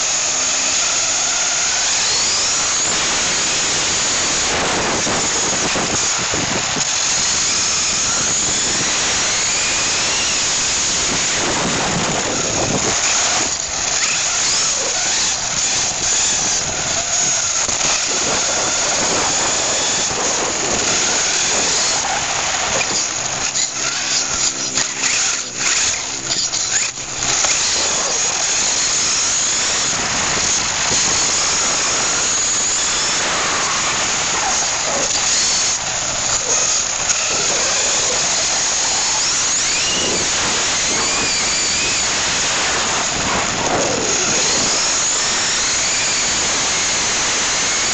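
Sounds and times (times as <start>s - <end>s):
electric motor whine: 0.0s - 47.9s
tyre and drivetrain rush: 0.0s - 47.9s.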